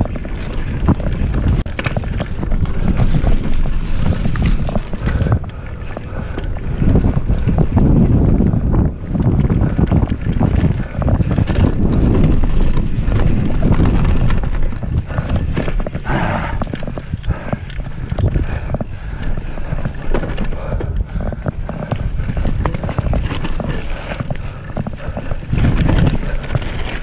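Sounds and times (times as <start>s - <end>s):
bike frame clattering over bumps: 0.0s - 27.0s
bike tyres on dirt: 0.0s - 27.0s
wind rumble on microphone: 0.0s - 27.0s.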